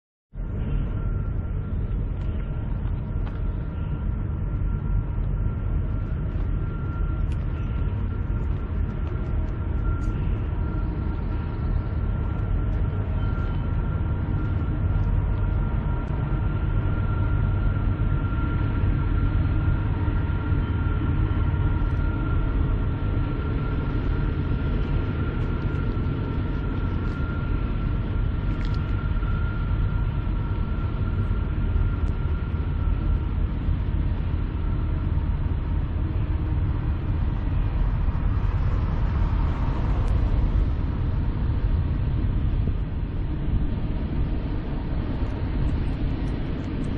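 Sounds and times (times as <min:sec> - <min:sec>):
distant diesel train rumble: 0:00.4 - 0:46.9.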